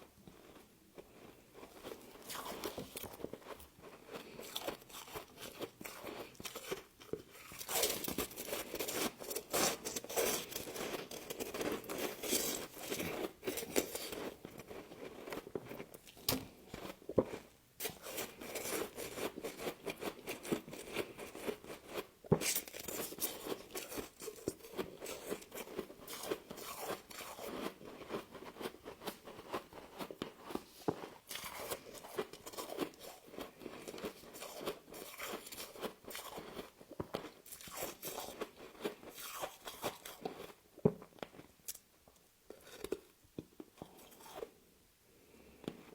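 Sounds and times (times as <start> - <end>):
chewing crunchy frost: 0.2 - 41.8, 42.5 - 44.6.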